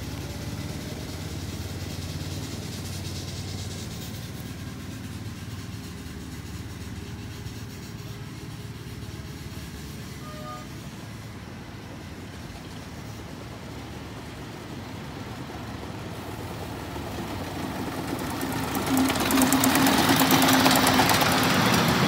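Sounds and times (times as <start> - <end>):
miniature locomotive engine running: 0.0 - 22.0.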